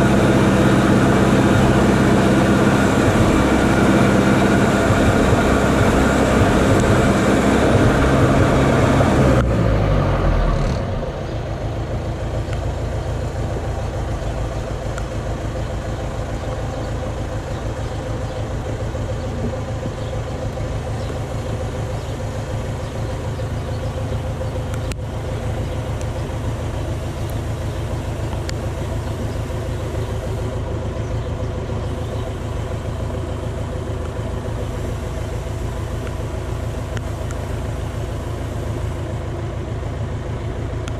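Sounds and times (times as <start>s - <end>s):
forklift engine revving and idling: 0.0s - 40.9s.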